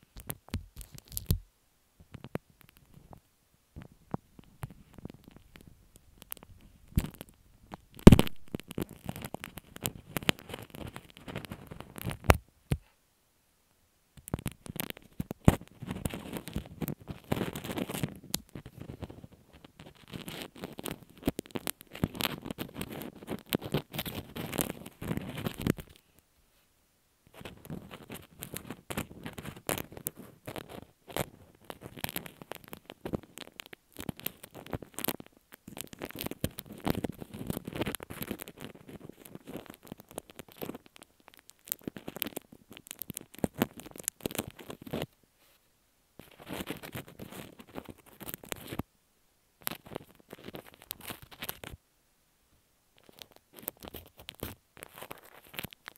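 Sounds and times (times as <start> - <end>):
slime squishing and crackling: 0.0 - 1.4, 4.4 - 12.8, 14.2 - 26.0, 27.3 - 45.1, 46.2 - 48.8, 49.6 - 51.7, 53.0 - 55.9.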